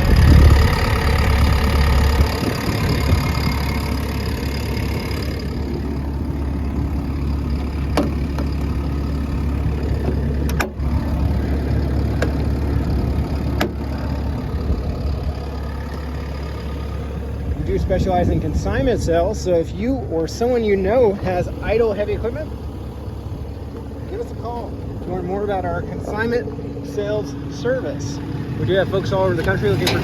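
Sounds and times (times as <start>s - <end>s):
excavator diesel engine idling: 0.0s - 30.0s.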